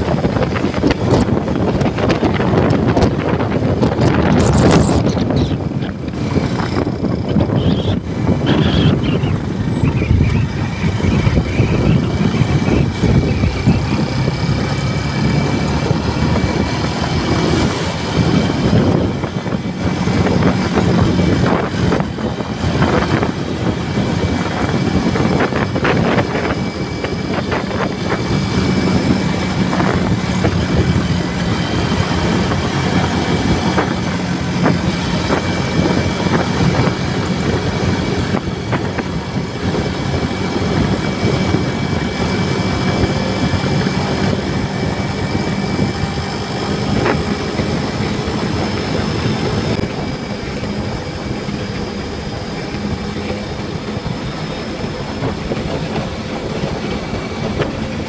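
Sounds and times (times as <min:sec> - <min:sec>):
motorcycle engine drone: 0:00.0 - 0:58.0
road noise: 0:00.0 - 0:58.0
wind buffeting microphone: 0:00.0 - 0:58.0.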